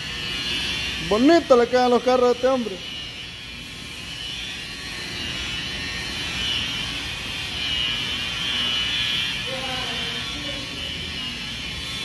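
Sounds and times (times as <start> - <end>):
car polisher motor whine: 0.0 - 12.0.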